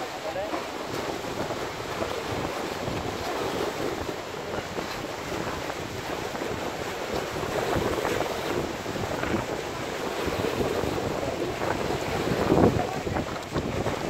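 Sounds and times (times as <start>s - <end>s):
sea water lapping and splashing: 0.0s - 14.0s
wind buffeting microphone: 0.0s - 14.0s.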